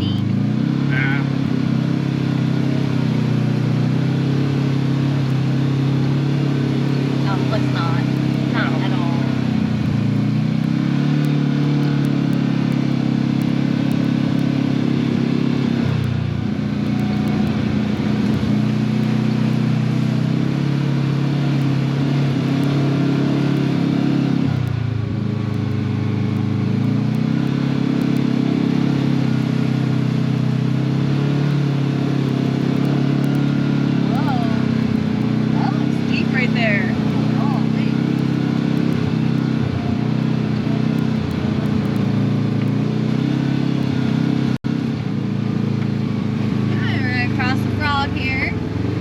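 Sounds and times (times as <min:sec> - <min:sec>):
utility vehicle engine running: 0:00.0 - 0:49.0.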